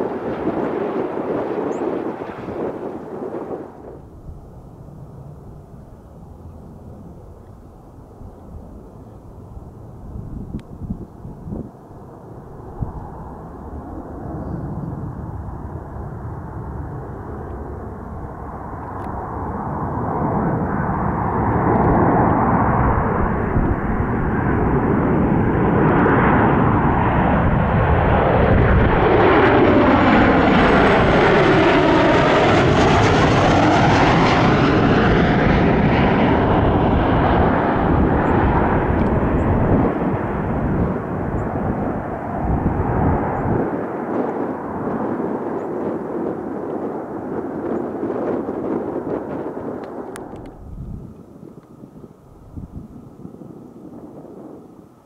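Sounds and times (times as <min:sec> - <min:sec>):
aircraft engines flying past: 0:00.0 - 0:55.0.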